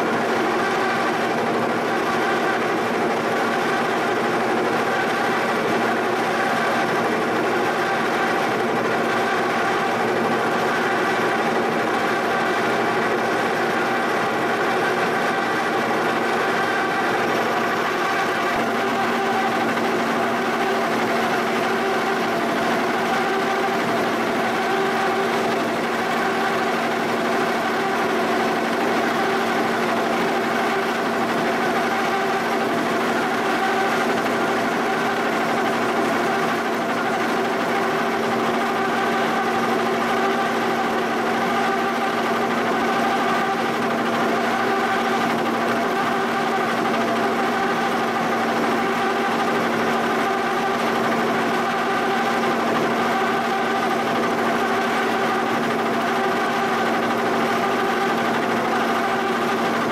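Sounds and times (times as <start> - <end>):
boring mill cutting metal: 0.0 - 59.9.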